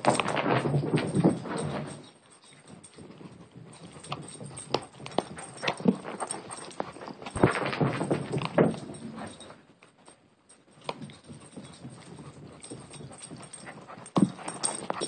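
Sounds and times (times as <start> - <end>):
dog paws clicking and thumping: 0.0 - 15.0.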